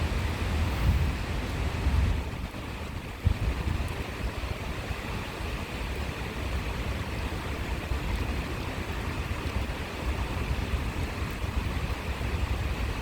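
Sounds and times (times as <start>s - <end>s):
stream rushing: 0.0s - 13.0s
wind buffeting microphone: 0.0s - 13.0s.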